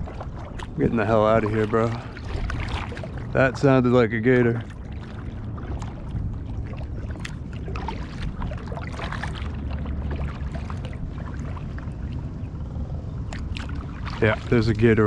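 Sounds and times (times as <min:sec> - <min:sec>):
paddle splashing in water: 0:00.0 - 0:12.2, 0:13.3 - 0:15.0
steady low rumble: 0:00.0 - 0:15.0.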